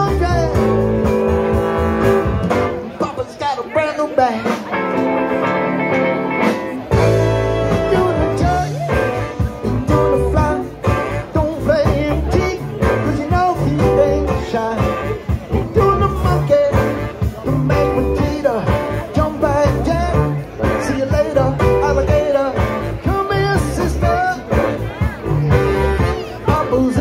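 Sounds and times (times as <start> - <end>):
lead singer singing: 0.0 - 1.4, 2.8 - 5.0, 6.9 - 27.0
live rock band playing: 0.0 - 27.0.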